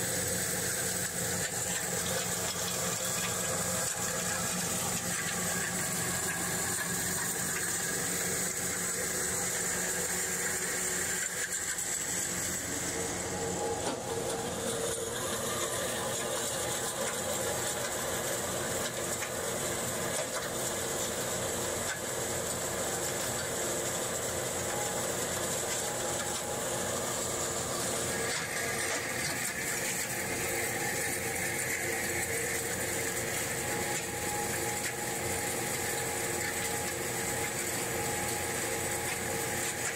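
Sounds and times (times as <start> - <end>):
milling machinery hum: 0.0 - 39.9.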